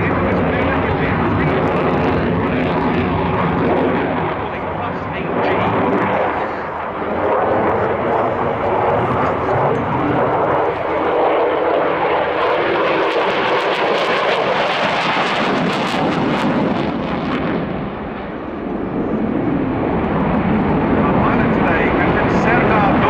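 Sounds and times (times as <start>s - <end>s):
fighter jet engine rush: 0.0s - 23.0s.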